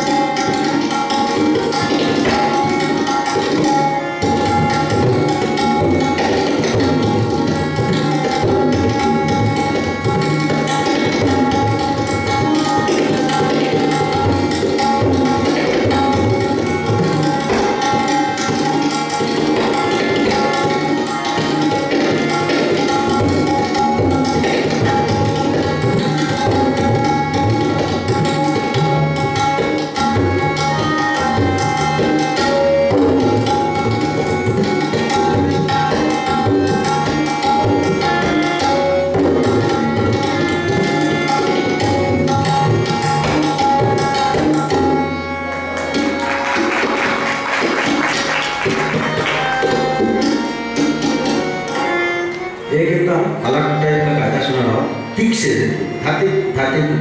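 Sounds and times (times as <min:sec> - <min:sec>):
harmonium repeating melody: 0:00.0 - 0:57.0
tabla solo: 0:00.0 - 0:57.0.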